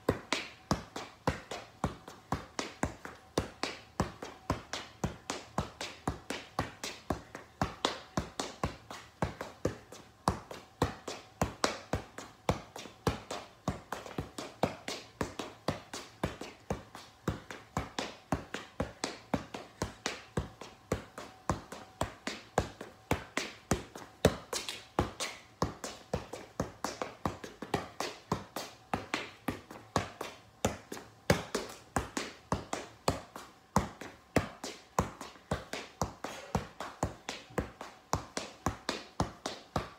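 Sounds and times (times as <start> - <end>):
ball tapping on foot: 0.0 - 39.9.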